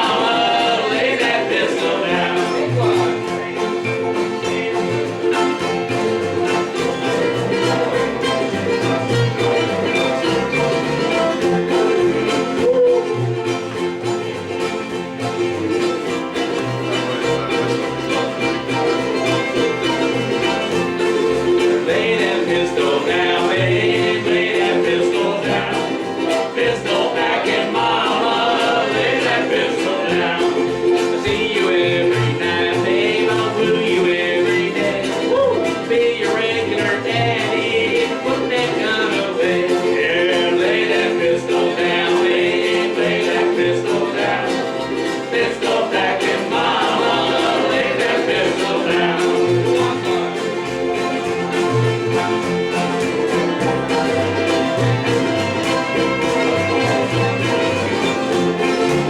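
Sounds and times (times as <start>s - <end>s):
acoustic string band music: 0.0s - 59.0s.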